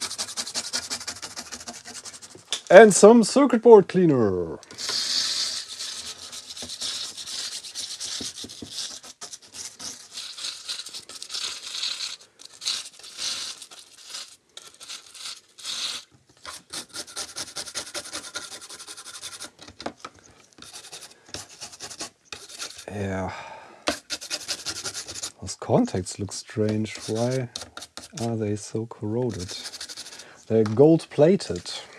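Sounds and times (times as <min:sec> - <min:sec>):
brush scrubbing circuit board: 0:00.0 - 0:02.4, 0:04.8 - 0:19.6, 0:20.6 - 0:23.0, 0:23.9 - 0:25.5, 0:26.4 - 0:28.4, 0:29.1 - 0:31.8.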